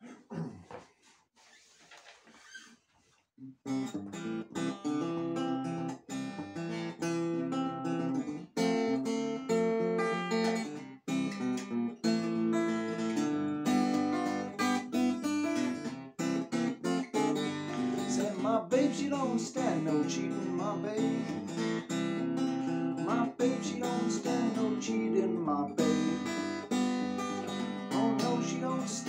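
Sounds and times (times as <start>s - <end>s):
acoustic guitar fingerpicking blues: 3.4s - 29.0s.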